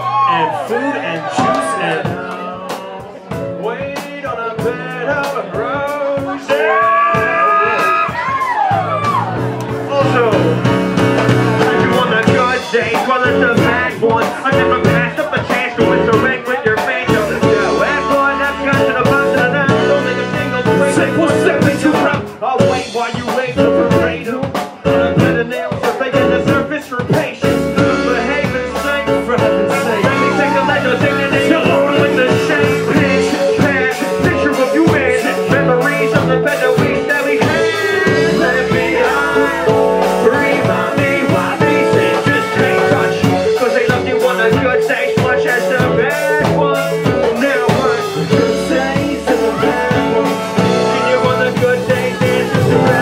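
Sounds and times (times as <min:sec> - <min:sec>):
person singing: 0:00.0 - 0:08.5, 0:09.1 - 0:53.0
live band playing: 0:00.0 - 0:53.0.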